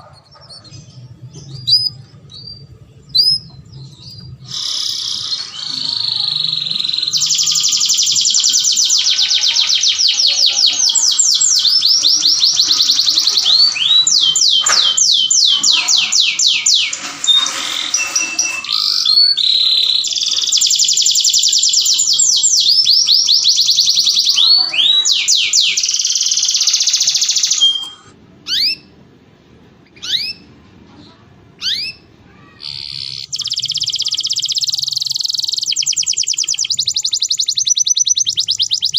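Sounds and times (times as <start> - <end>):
canary singing trills: 0.0 - 29.0, 29.8 - 30.5, 31.6 - 38.9.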